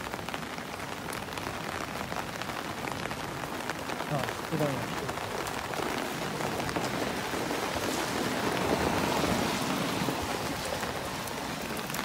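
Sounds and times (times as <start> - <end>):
heavy rain on umbrella: 0.0 - 12.0
rain on wet street: 0.0 - 12.0.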